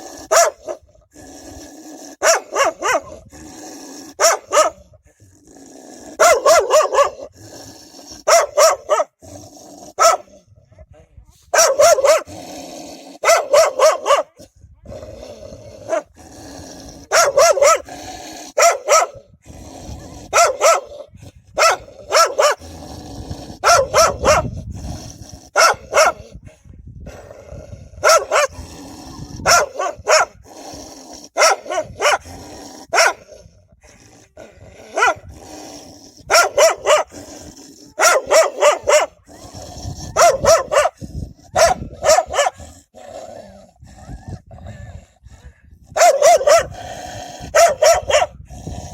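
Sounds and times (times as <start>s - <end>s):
dogs barking aggressively: 0.0s - 4.9s, 5.9s - 10.4s, 11.5s - 14.4s, 15.4s - 26.4s, 27.2s - 33.5s, 34.4s - 44.6s, 45.8s - 48.9s
dogs growling low: 0.0s - 10.9s, 11.9s - 13.6s, 14.4s - 48.9s.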